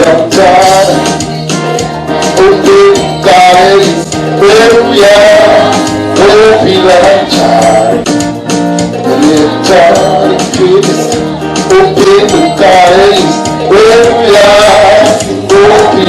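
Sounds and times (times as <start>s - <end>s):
steady percussion beat: 0.0s - 16.0s
voices singing gospel: 0.0s - 16.0s.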